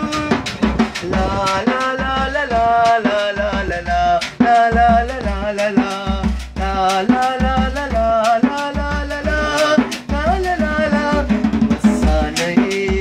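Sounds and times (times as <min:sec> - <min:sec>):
hand drum strokes: 0:00.0 - 0:13.0
man singing with vibrato: 0:00.0 - 0:13.0.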